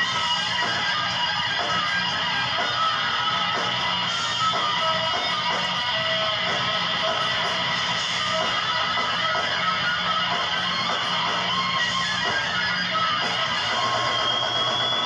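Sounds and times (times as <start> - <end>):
rock music with electric guitars: 0.0 - 15.0.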